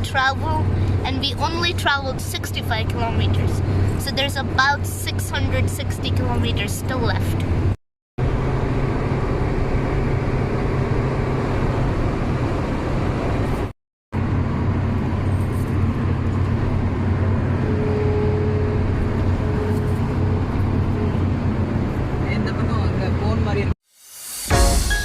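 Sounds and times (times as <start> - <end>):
car road noise and engine hum: 0.0 - 23.8.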